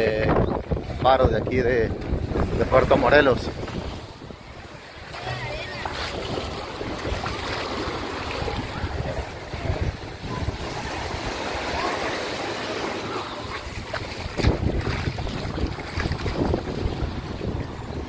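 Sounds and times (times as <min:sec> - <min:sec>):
wind buffeting microphone: 0:00.0 - 0:11.9, 0:13.4 - 0:18.0
waves washing onto beach: 0:00.0 - 0:18.0.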